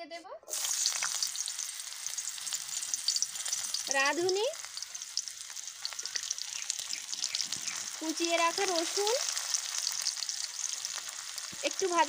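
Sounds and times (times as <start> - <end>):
onion sizzling in hot oil: 0.5 - 12.0.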